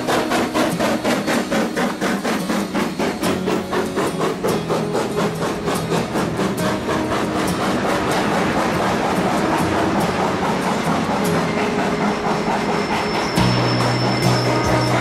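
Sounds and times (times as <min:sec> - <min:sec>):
steam locomotive exhaust beats: 0:00.0 - 0:15.0
wagon wheels clattering on rails: 0:00.0 - 0:15.0.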